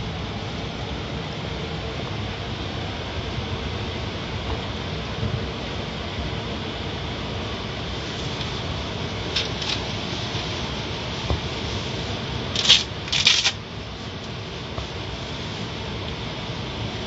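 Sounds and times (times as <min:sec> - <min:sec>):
water jets spraying a car: 0:00.0 - 0:17.0.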